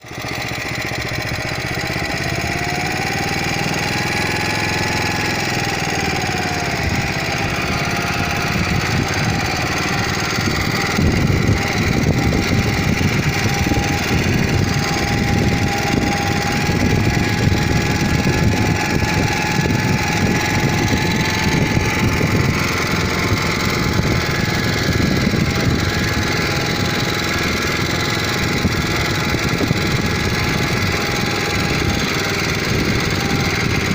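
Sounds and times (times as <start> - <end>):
small tractor engine chugging: 0.0 - 33.9.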